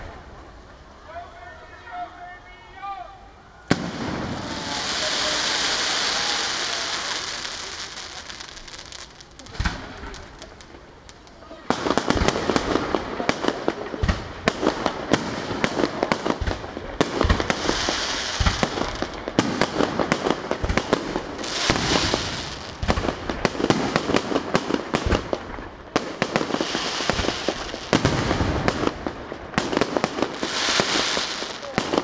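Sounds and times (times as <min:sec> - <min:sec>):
fireworks bangs and crackles: 0:03.7 - 0:32.0
fireworks hiss: 0:03.7 - 0:32.0.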